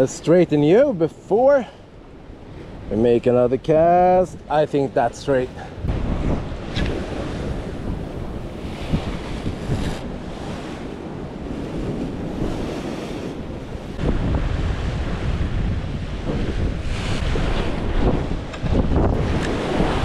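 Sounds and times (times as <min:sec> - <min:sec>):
wind buffeting microphone: 0:01.9 - 0:20.0
waves breaking on rocks: 0:03.8 - 0:20.0.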